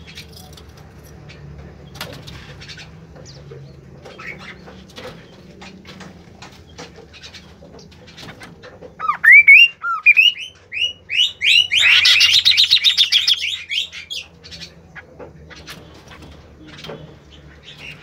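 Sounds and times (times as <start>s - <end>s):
songbird singing: 1.2s - 18.0s.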